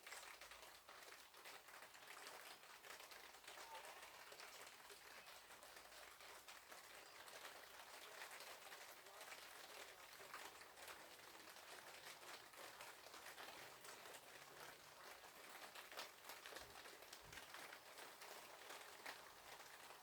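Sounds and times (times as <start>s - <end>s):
rain hissing on patio: 0.0s - 20.0s
raindrop ticks: 0.0s - 20.0s.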